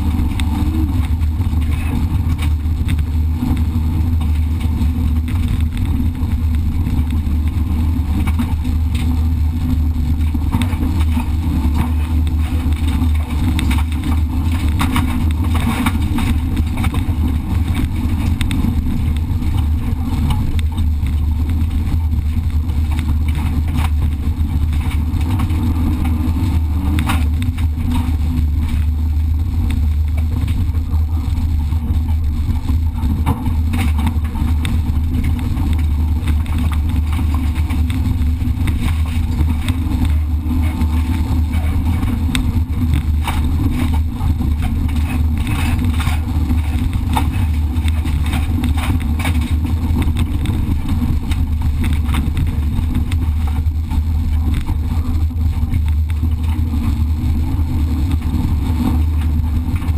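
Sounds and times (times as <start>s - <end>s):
car engine drone under load: 0.0s - 59.9s
road noise: 0.0s - 59.9s.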